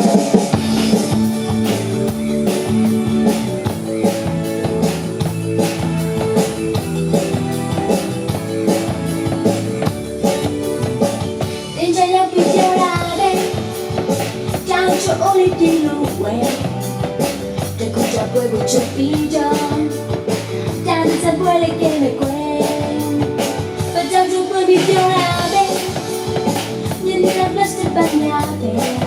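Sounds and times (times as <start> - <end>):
lead melody line: 0.0 - 29.0
pop-rock band playing: 0.0 - 29.0.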